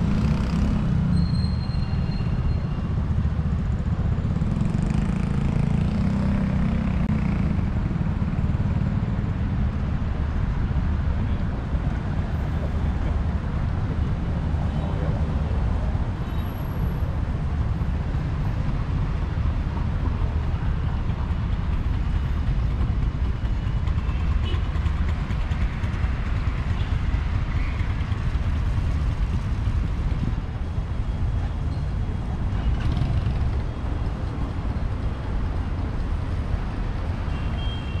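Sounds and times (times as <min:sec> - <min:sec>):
city road traffic rumble: 0:00.0 - 0:38.0.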